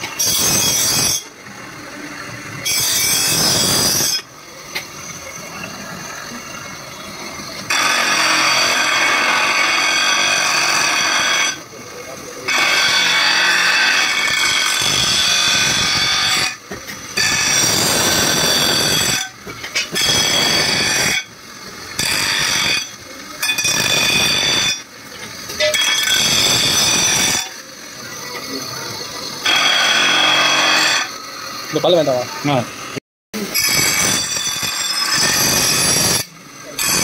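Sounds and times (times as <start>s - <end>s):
bench grinder grinding steel blade: 0.0s - 37.0s.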